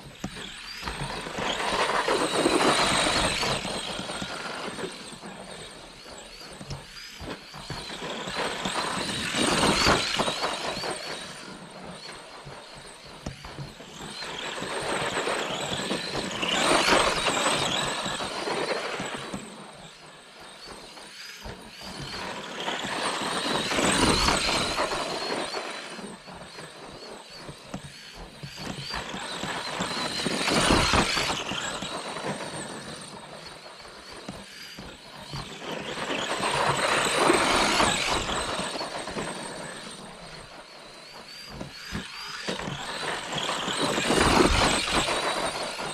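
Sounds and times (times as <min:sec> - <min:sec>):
electric motor high whine: 0:00.0 - 0:45.9.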